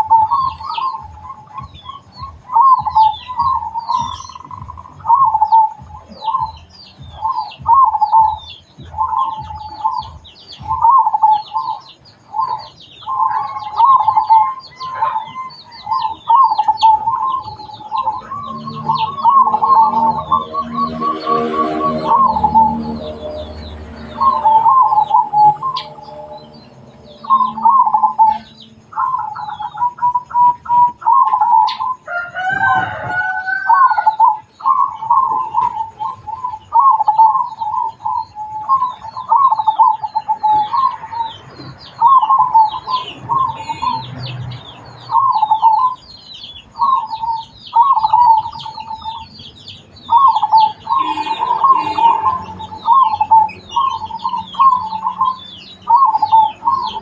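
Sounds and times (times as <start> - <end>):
doves cooing: 0.0 - 44.3, 45.0 - 46.0, 46.8 - 49.3, 50.1 - 57.0
drawn-out bird call: 0.0 - 57.0
small birds chirping: 0.0 - 57.0.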